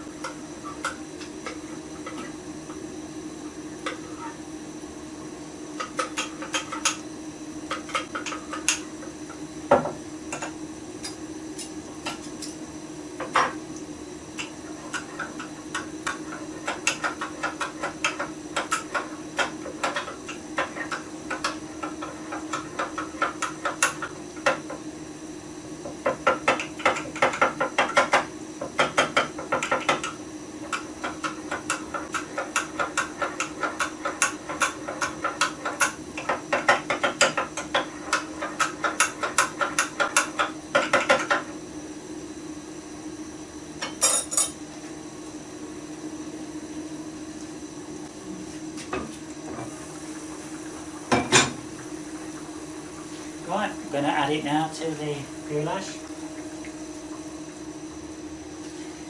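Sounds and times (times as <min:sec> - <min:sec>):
extractor fan humming: 0:00.0 - 0:59.0.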